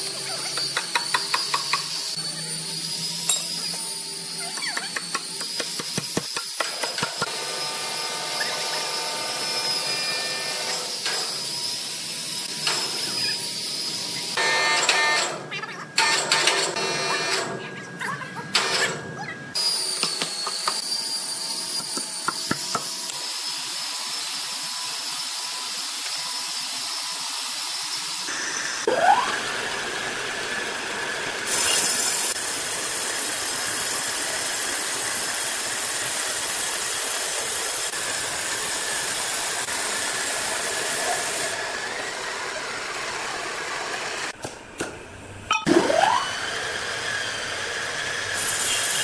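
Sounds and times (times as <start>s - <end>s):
band sawmill machinery running: 0.0s - 45.2s, 45.8s - 49.0s.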